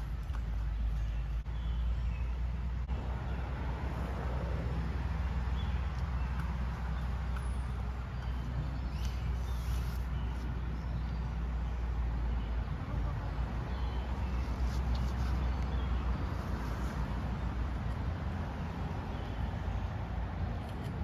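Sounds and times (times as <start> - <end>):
birds chirping: 0.0 - 20.6
low rumble of road traffic: 0.0 - 21.0.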